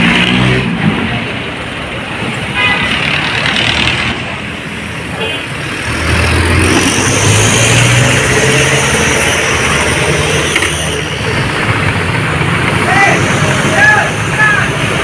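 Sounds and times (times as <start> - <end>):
road traffic noise: 0.0 - 15.0
vehicle engine humming: 0.0 - 15.0.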